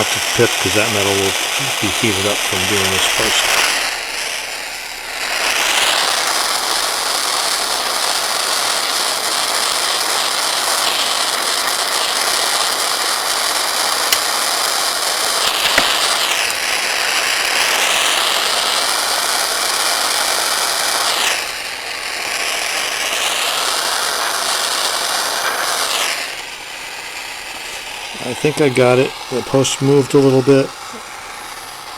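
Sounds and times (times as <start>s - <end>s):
torch flame hissing: 0.0s - 31.9s.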